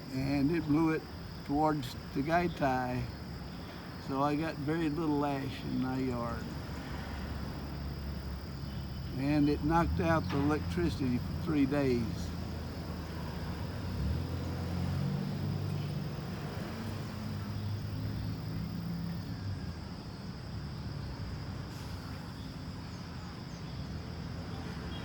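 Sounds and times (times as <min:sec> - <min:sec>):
car engine and tyre noise: 0:00.0 - 0:25.0
high insect drone: 0:00.0 - 0:25.0.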